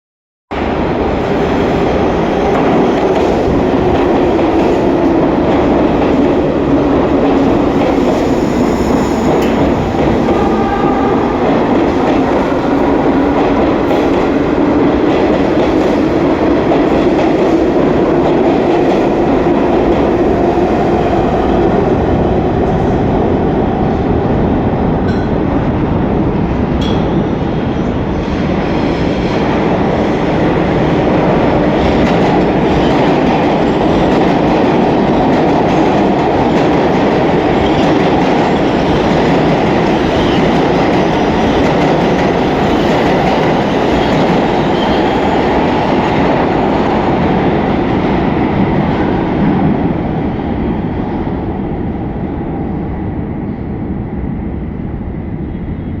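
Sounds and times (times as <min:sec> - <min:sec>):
subway train rumbling: 0:00.5 - 0:56.0.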